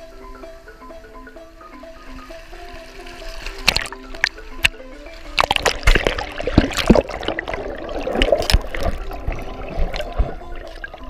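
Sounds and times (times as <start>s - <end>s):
faint background music: 0.0s - 11.0s
seawater splashing and sloshing: 1.9s - 11.0s.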